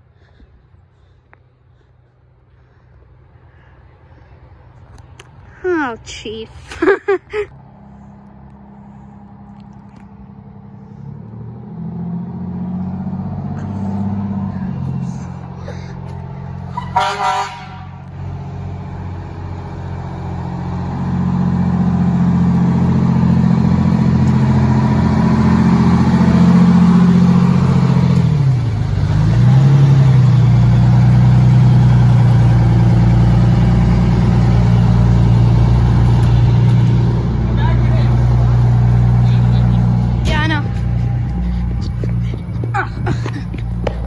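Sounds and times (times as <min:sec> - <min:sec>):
fire engine diesel engine: 0:00.0 - 0:44.0.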